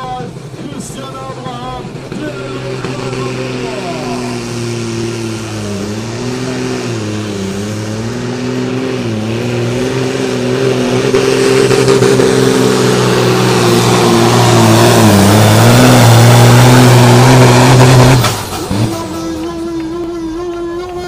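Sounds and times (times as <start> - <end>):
diesel engine under full load: 0.0 - 21.0.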